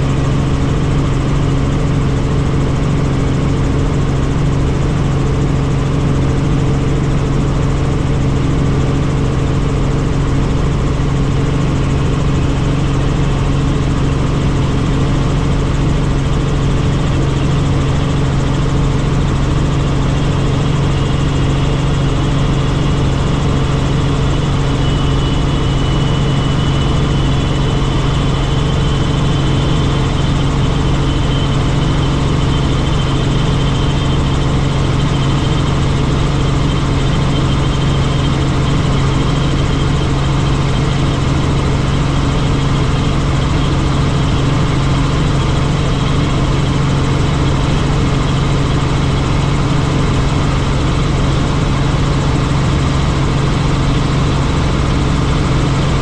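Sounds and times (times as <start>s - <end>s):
helicopter engine and rotor drone: 0.0s - 56.0s
faint high whine: 10.9s - 56.0s.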